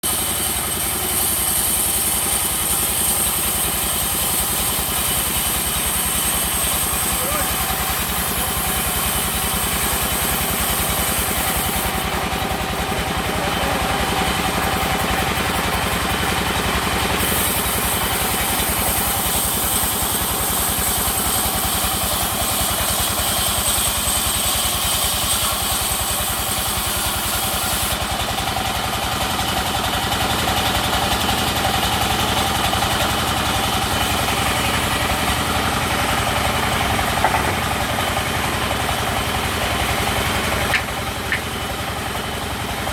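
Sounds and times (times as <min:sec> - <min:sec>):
sawmill machinery droning: 0:00.0 - 0:42.9.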